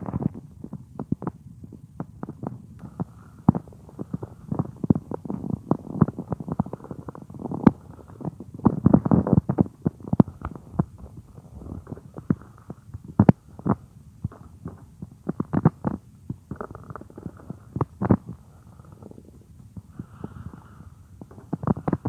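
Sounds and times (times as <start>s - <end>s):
stomach growling and gurgling: 0.0s - 22.0s.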